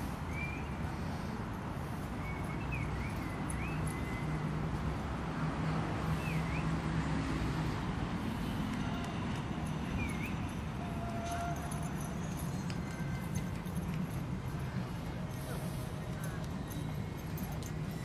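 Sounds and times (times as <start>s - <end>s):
city street traffic rumble: 0.0s - 18.0s.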